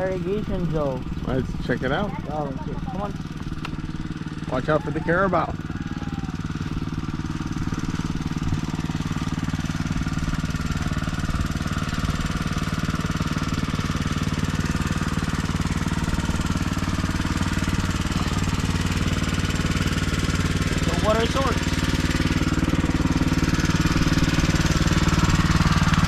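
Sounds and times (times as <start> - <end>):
water pump engine running: 0.0 - 26.0.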